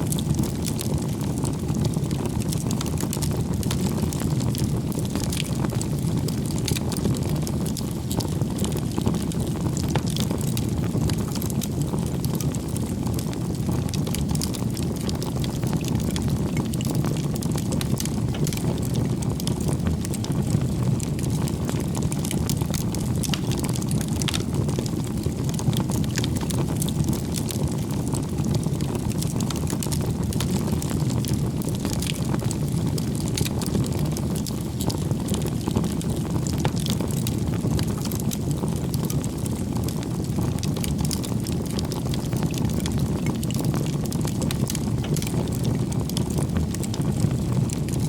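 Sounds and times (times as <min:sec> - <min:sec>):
campfire flames rushing: 0:00.0 - 0:48.0
fire crackling and popping: 0:00.0 - 0:48.0.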